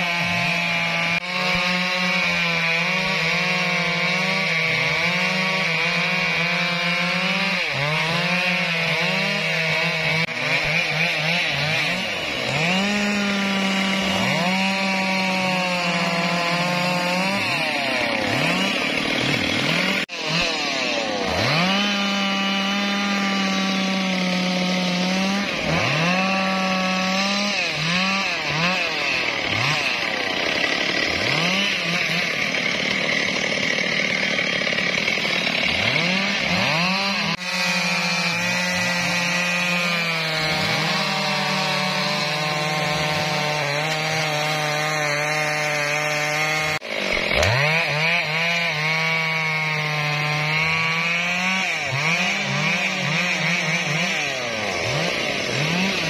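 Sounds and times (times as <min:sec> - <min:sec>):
chainsaw cutting logs: 0:00.0 - 0:56.0
second chainsaw running: 0:00.0 - 0:56.0.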